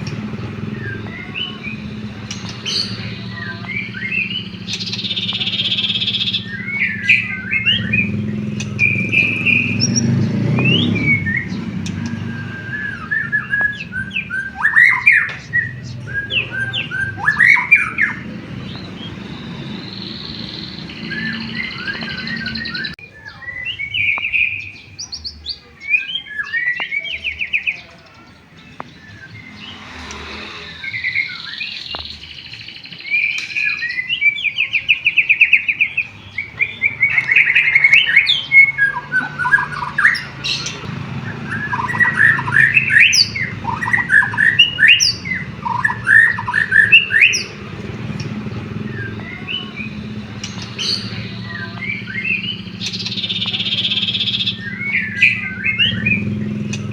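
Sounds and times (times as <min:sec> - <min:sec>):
songbird singing whistles and trills: 0:00.0 - 0:56.9.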